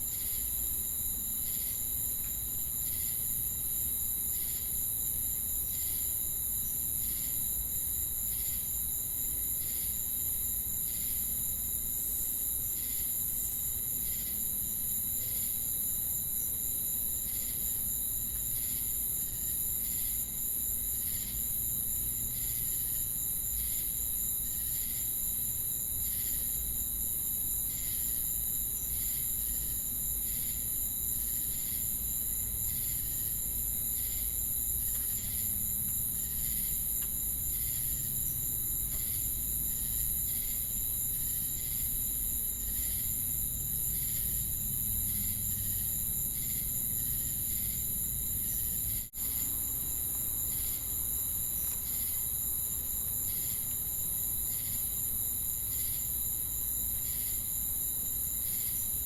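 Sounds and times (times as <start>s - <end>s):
crickets and cicadas buzzing: 0.0s - 59.0s.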